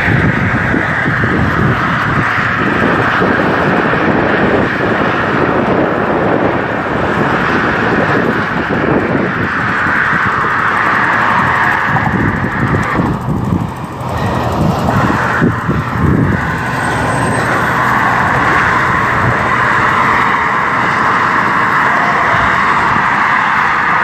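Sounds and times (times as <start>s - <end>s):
low rumbling: 0.0s - 23.0s
car traffic: 0.0s - 24.0s.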